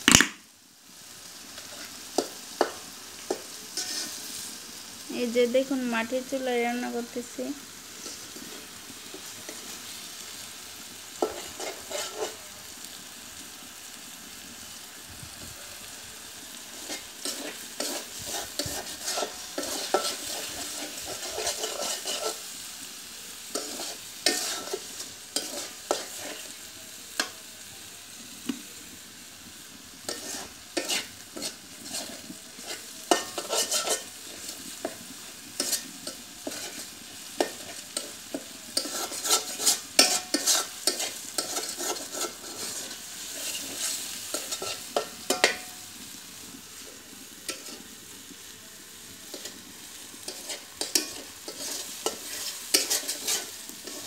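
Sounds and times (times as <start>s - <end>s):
food sizzling: 0.0s - 54.0s
spatula scraping metal wok: 1.3s - 5.0s, 5.7s - 12.5s, 16.4s - 27.3s, 29.9s - 48.4s, 49.2s - 54.0s.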